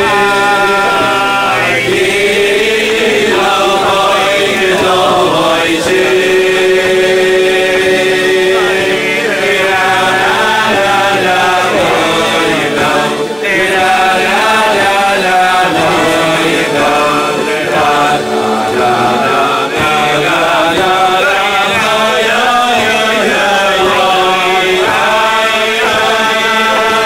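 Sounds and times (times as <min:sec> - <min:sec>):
men singing in a group: 0:00.0 - 0:27.0.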